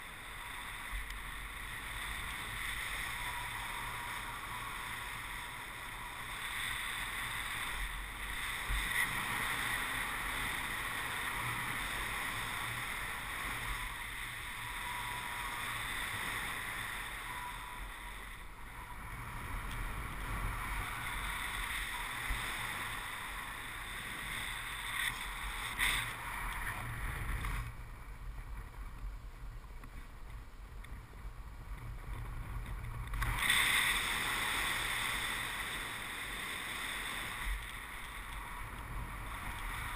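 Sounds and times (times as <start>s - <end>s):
wind roar on microphone: 0.0s - 39.9s.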